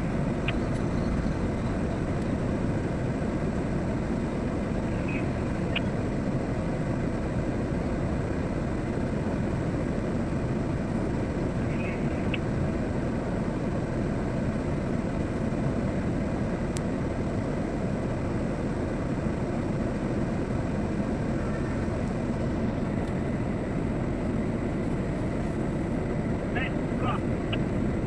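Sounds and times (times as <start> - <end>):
heavy diesel machinery rumbling: 0.0 - 28.0.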